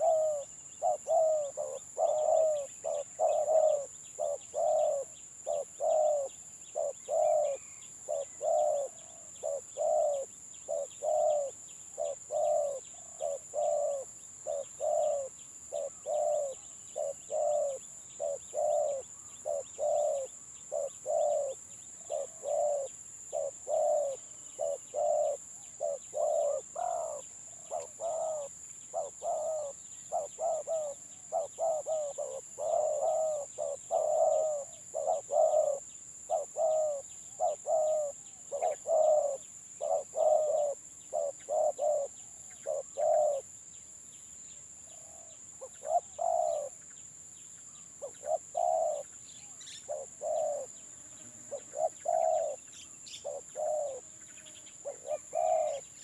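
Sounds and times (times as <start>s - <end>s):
doves cooing: 0.0s - 43.5s, 45.1s - 46.8s, 48.0s - 49.1s, 49.7s - 50.8s, 51.5s - 54.1s, 54.8s - 56.0s.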